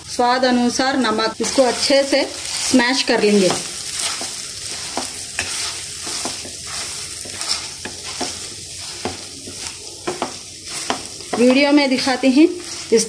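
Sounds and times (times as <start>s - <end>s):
oil sizzling: 0.0s - 13.0s
utensil scraping pan: 1.4s - 13.0s.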